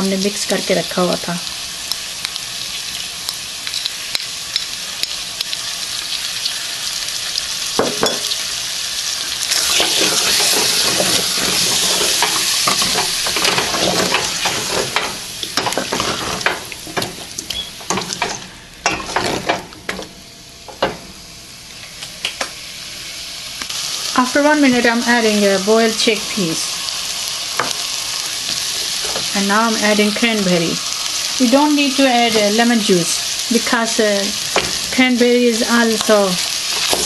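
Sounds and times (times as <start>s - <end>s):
potatoes sizzling in hot oil: 0.0s - 20.0s, 22.6s - 37.0s.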